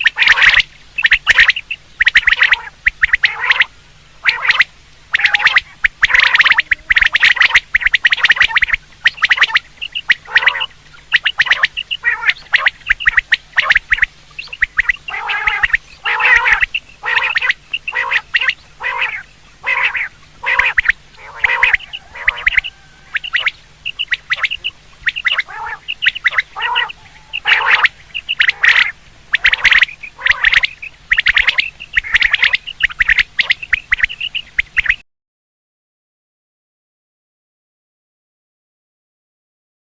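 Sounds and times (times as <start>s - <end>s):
faint steady hum: 0.0s - 35.0s
quail calls: 0.0s - 35.0s.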